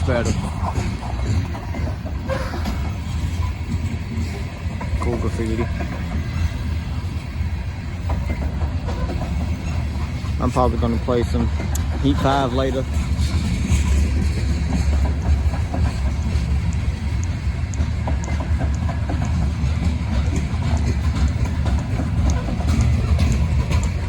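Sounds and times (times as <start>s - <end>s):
steel wheels clicking and squeaking: 0.0s - 24.0s
train wheels rumbling on rail: 0.0s - 24.0s.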